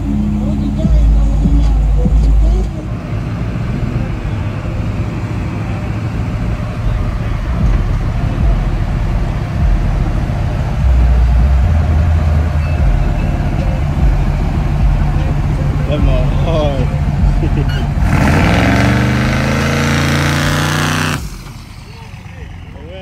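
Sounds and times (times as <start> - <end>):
car engine low rumble: 0.0 - 23.0.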